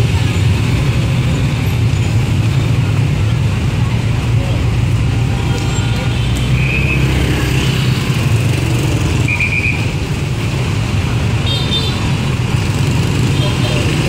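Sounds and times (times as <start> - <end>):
motorbike traffic passing: 0.0 - 14.0.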